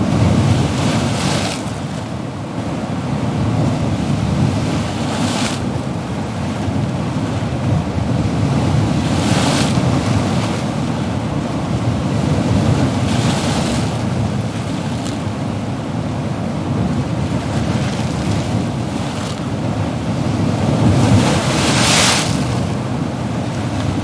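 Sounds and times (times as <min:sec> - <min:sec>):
low rumble of waves: 0:00.0 - 0:24.0.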